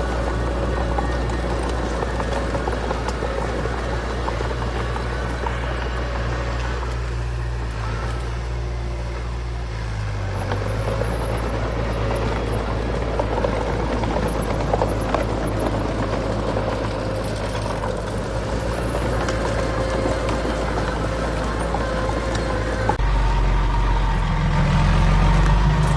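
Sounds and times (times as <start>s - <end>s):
diesel machinery engine drone: 0.0s - 25.9s.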